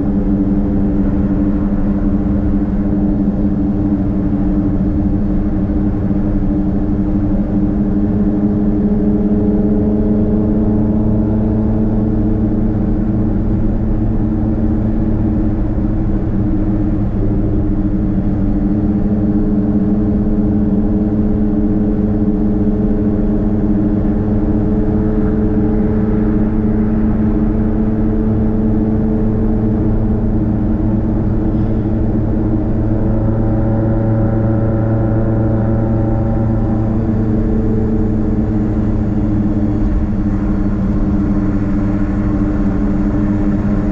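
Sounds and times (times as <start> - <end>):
loud car exhaust drone: 0.0 - 43.9.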